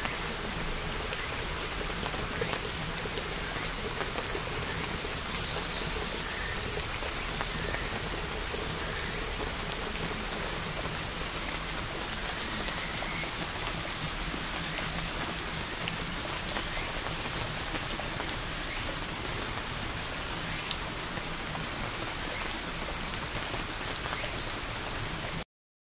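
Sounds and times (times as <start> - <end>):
rain hissing: 0.0 - 25.4.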